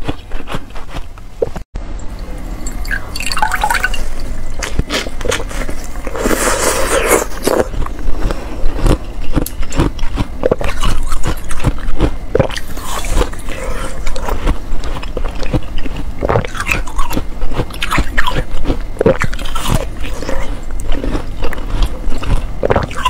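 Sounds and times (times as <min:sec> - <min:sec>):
slush ice eating: 0:02.6 - 0:23.0.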